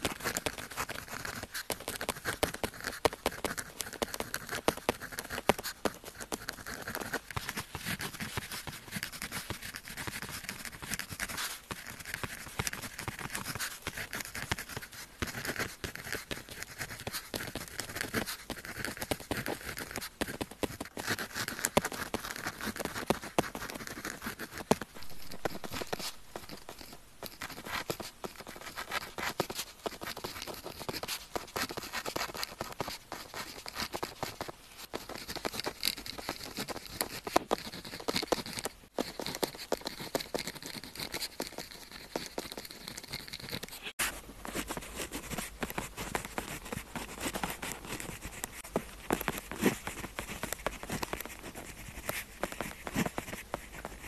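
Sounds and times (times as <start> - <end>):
pen scratching on paper: 0.0 - 54.0.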